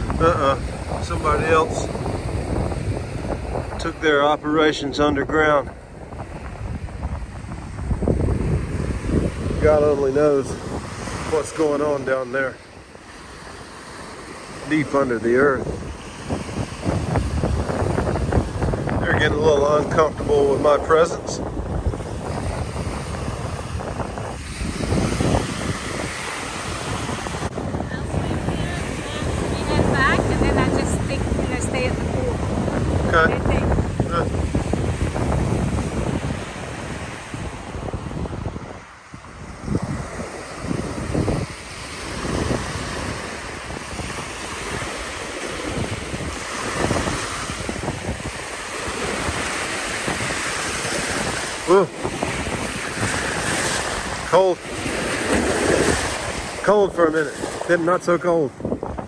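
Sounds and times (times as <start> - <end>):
small waves breaking on beach: 0.0 - 59.0
wind rumbling on microphone: 0.0 - 59.0.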